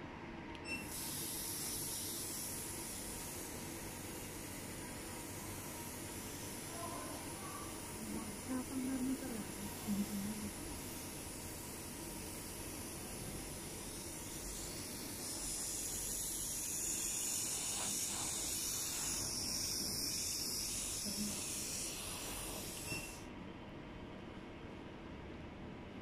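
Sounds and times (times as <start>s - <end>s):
spray gun hissing water mist: 0.9s - 23.2s.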